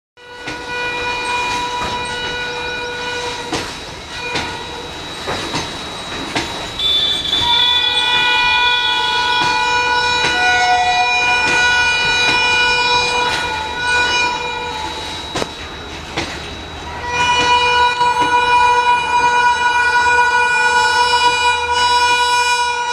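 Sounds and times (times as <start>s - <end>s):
train horn blasts: 0.2s - 4.9s, 6.8s - 15.5s, 16.9s - 22.9s
train wheels clicking on rail joints: 0.2s - 22.2s.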